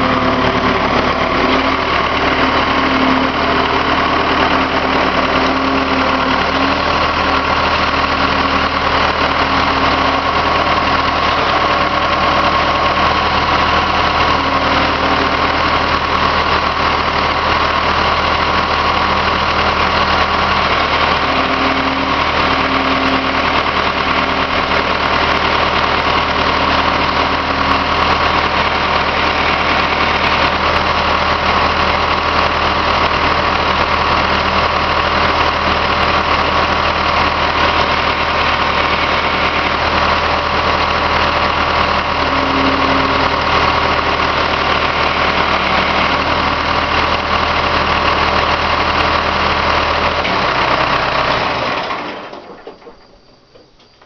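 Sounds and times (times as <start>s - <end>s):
skid loader engine idling: 0.0s - 54.0s.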